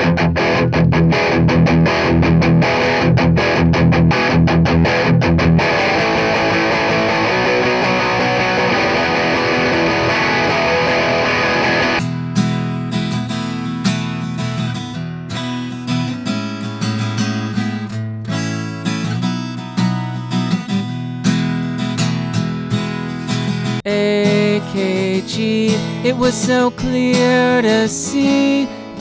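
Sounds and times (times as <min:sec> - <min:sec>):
acoustic guitar strummed: 0:00.0 - 0:29.0
electric guitar: 0:00.0 - 0:29.0.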